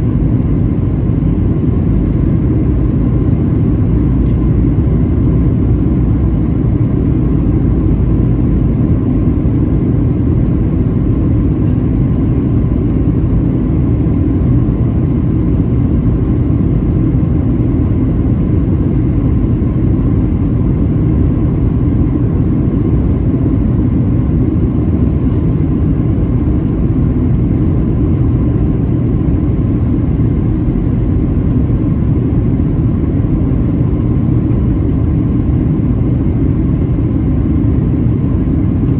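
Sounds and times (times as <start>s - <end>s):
aircraft engine rumble: 0.0s - 38.9s.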